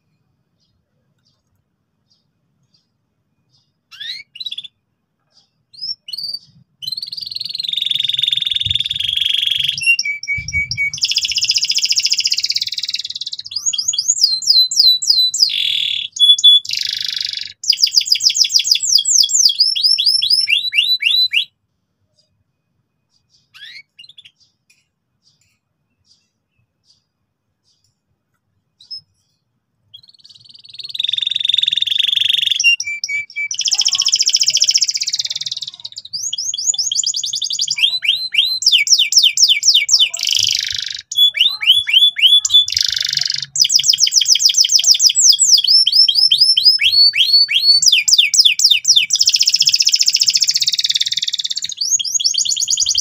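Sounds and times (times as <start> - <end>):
canary singing and chirping: 0.5 - 21.5, 23.0 - 28.0, 28.6 - 53.0.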